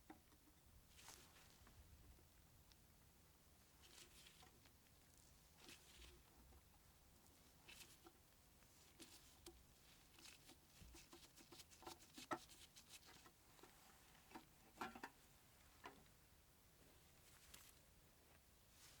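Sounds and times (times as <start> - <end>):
faint small clicks and taps: 0.0 - 2.9, 3.8 - 16.2, 17.3 - 18.4.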